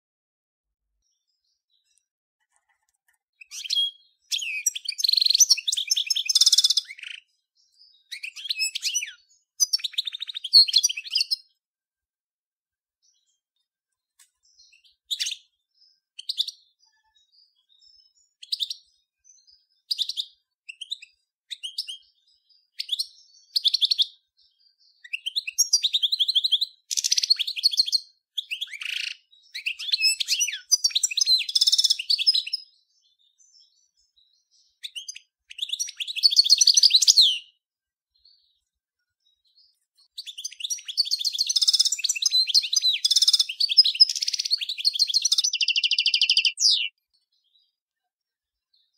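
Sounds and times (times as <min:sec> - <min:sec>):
bird twittering and trilling: 0:01.0 - 0:11.6, 0:13.0 - 0:37.6, 0:38.2 - 0:48.9.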